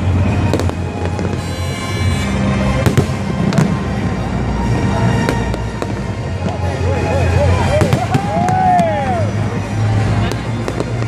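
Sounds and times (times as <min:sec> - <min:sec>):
fireworks bangs: 0:00.0 - 0:06.8, 0:07.6 - 0:11.0
low rumble of fireworks bursts: 0:00.0 - 0:11.0.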